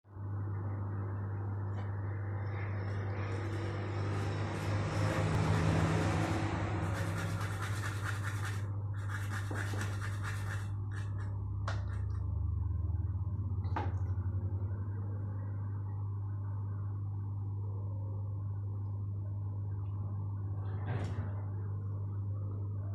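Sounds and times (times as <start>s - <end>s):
steady low hum: 0.1s - 22.9s.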